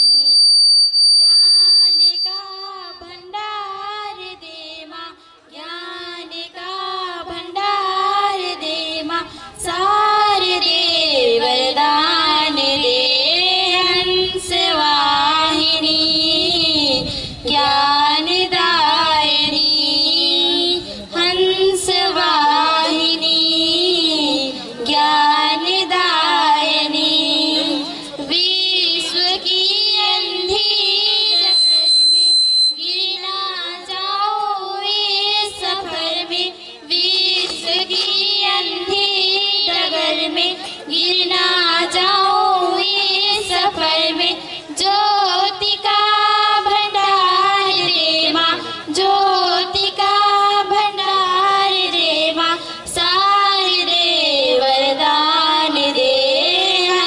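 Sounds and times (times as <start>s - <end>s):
girls singing into microphones: 2.0s - 57.0s.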